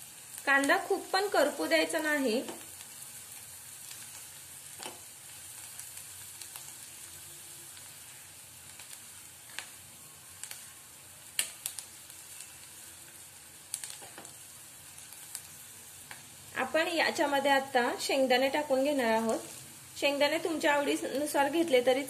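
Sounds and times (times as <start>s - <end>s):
onion sizzling in hot oil: 0.0s - 22.0s.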